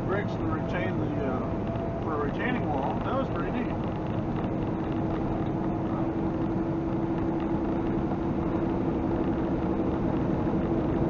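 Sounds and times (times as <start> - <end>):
truck engine droning: 0.0 - 11.0
tyre and road noise: 0.0 - 11.0.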